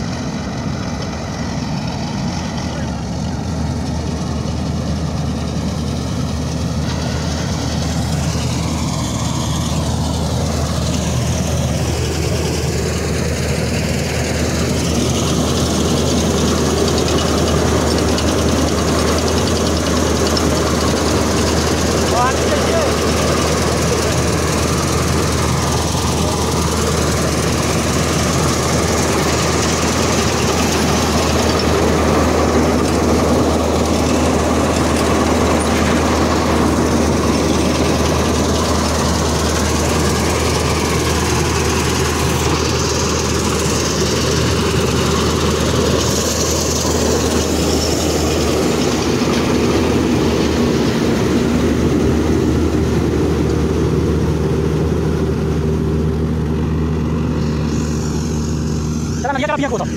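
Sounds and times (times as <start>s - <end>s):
combine harvester engine hum: 0.0s - 59.9s
cutting and threshing machinery din: 5.9s - 55.6s, 56.2s - 59.9s.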